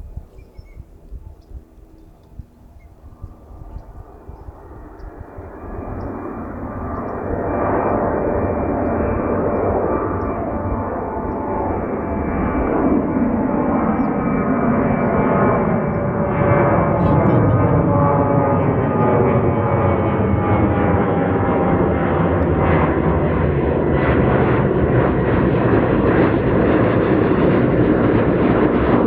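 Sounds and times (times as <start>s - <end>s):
jet engines rumbling and whining: 0.0s - 29.0s.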